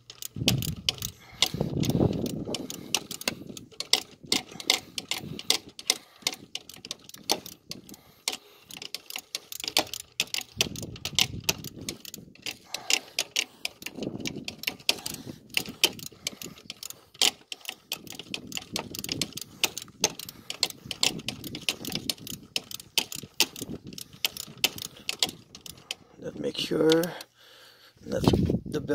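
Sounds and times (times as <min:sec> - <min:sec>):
socket ratchet clicking: 0:00.0 - 0:26.0, 0:26.8 - 0:27.4.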